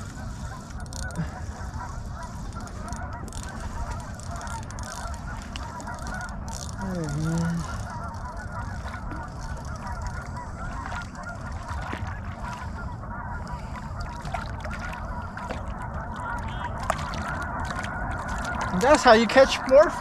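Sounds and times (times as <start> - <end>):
waterfowl flock calling: 0.0 - 20.0.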